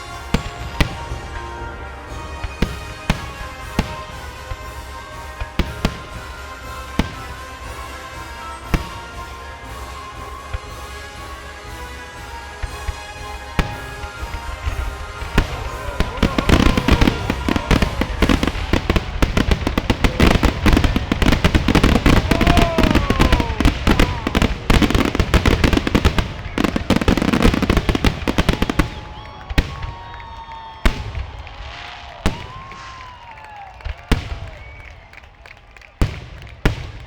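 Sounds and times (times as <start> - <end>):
fireworks bangs and crackle: 0.0 - 37.0.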